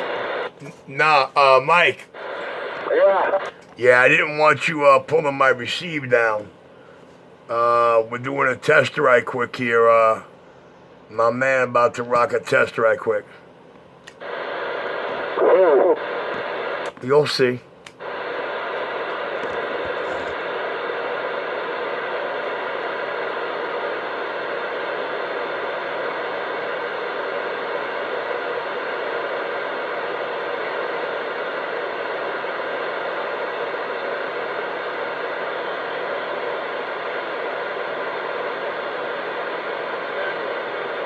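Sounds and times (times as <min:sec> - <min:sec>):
radio static hiss: 0:00.0 - 0:13.4, 0:14.1 - 0:41.0.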